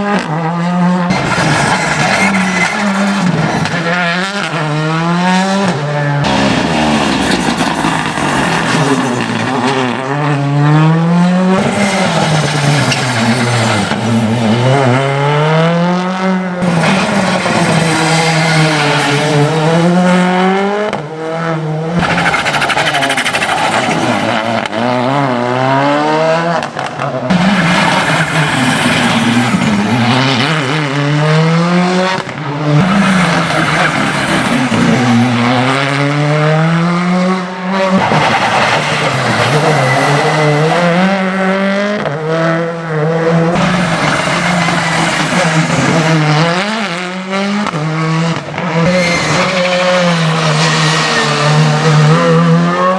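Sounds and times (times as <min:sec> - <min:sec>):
rally cars accelerating hard: 0:00.0 - 0:52.9.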